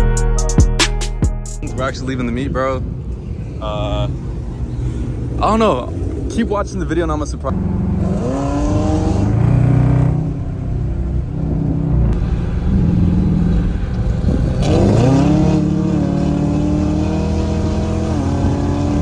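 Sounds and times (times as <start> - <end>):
car engine droning: 1.6 - 19.0.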